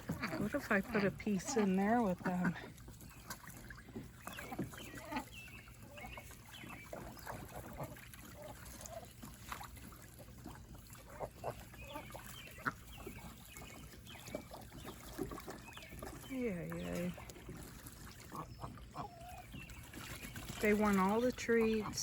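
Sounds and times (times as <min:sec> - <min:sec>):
birds pecking and dabbling: 0:00.0 - 0:22.0
soft goose calls: 0:00.0 - 0:22.0
water splashing: 0:00.0 - 0:22.0.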